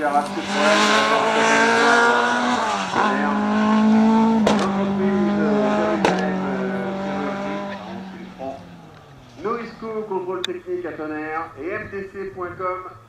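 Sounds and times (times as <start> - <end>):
race car engine at high revs: 0.0 - 10.5.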